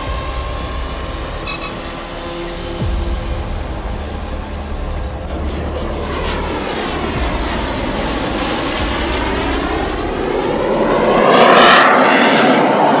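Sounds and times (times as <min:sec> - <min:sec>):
fighter jet flying past: 0:00.0 - 0:13.0.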